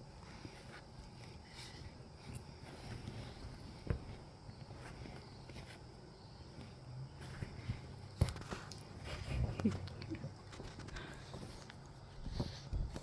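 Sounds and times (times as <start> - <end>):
dogs scuffling and paw steps: 0.2 - 13.0.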